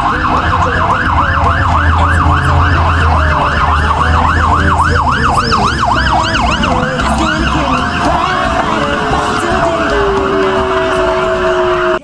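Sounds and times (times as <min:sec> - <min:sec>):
emergency siren yelping: 0:00.0 - 0:12.0
low engine rumble: 0:00.0 - 0:12.0.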